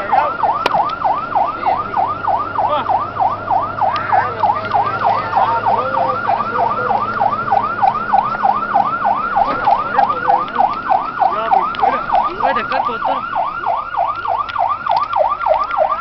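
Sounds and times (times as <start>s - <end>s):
fire engine siren yelping: 0.0s - 16.0s
truck engine droning: 0.0s - 16.0s.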